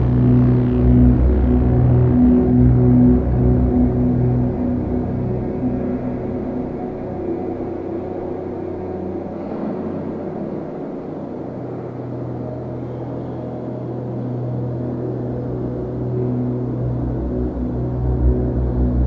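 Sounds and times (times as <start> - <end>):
dark ambient drone music: 0.0 - 19.0.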